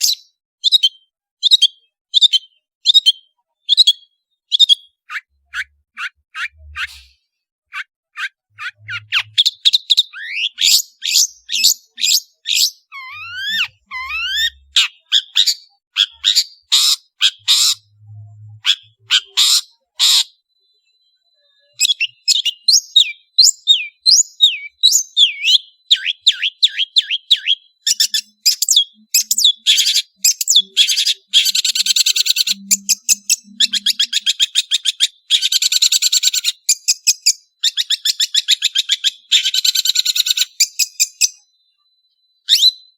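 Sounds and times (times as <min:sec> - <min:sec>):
bird singing sharp chirps and trills: 0:00.0 - 0:42.9.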